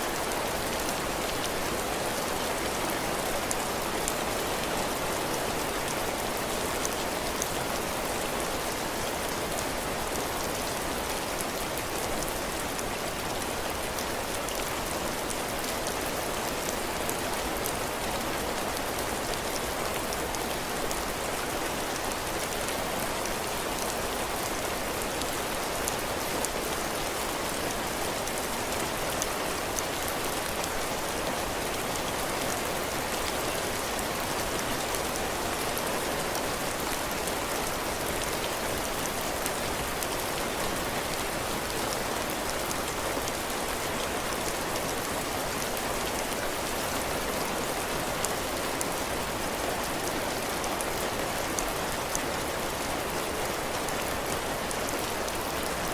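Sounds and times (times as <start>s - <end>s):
heavy rain on a porch roof: 0.0s - 55.9s.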